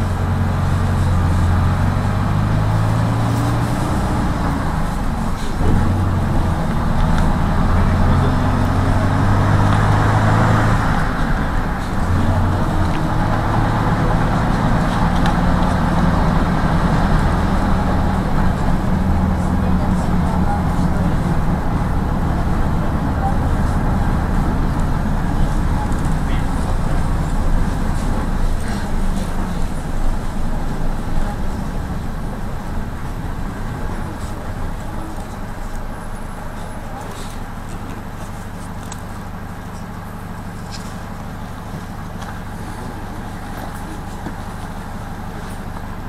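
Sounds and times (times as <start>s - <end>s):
engine idling: 0.0s - 46.0s
minibus engine and road noise: 0.0s - 46.0s.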